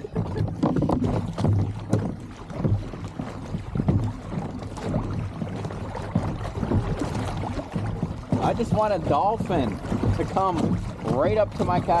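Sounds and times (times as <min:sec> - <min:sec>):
water sloshing against hull: 0:00.0 - 0:12.0.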